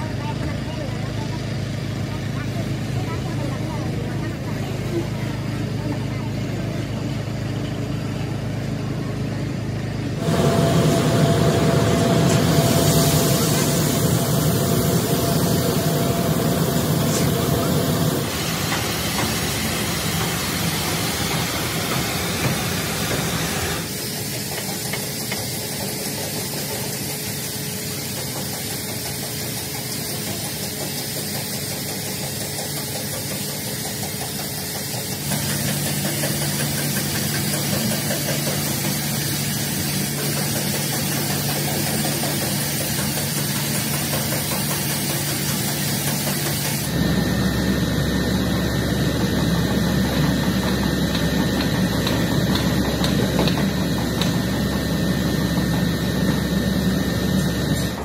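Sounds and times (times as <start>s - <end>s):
mechanical running noise with hiss: 0.1s - 58.0s.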